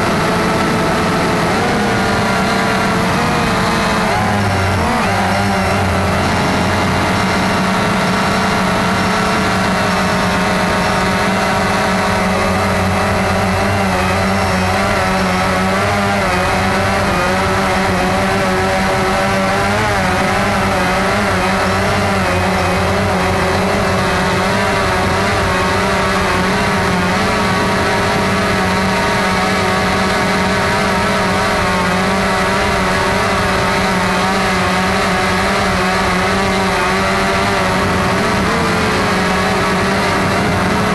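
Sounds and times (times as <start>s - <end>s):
drone propellers whining: 0.0s - 40.9s.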